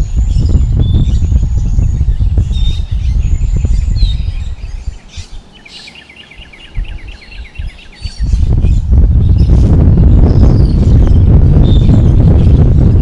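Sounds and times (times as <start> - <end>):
birds chirping and whistling: 0.0 - 13.0
wind buffeting microphone: 0.0 - 13.0.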